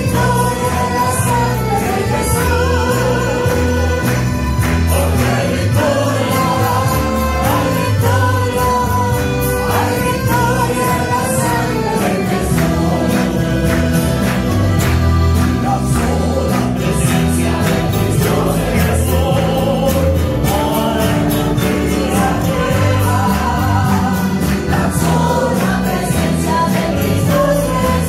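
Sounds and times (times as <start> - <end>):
low bass notes: 0.0 - 28.0
mandolins and guitars strumming: 0.0 - 28.0
voices singing: 0.0 - 28.0.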